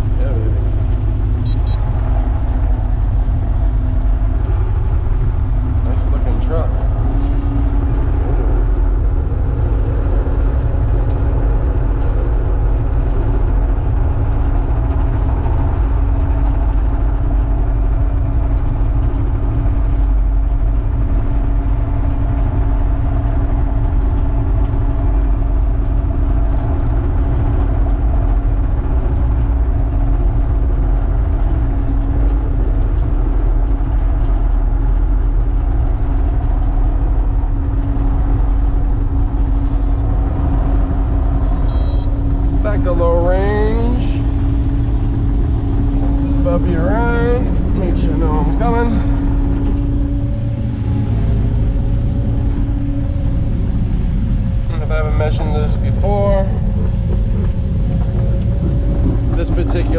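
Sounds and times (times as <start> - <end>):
diesel engine rumbling: 0.0 - 59.9
steady whine: 0.0 - 59.9.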